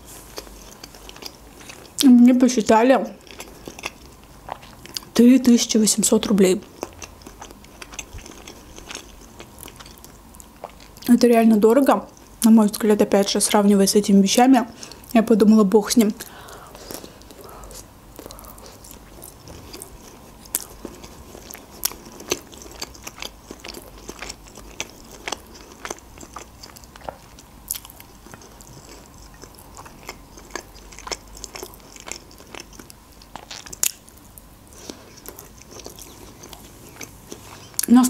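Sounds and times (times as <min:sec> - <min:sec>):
biting and chewing food: 0:00.2 - 0:11.1, 0:16.2 - 0:37.9.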